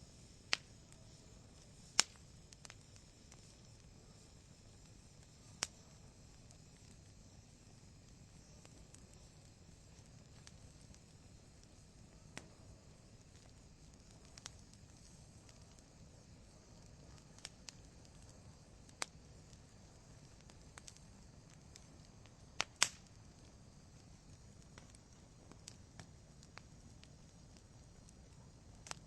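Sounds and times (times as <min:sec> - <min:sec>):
logs crackling in fireplace: 0:00.0 - 0:29.0.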